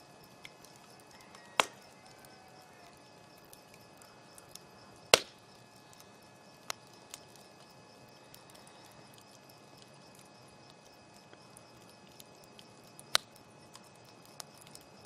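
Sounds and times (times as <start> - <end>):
wood fire crackling: 0.0 - 15.0
fire popping: 0.2 - 15.0.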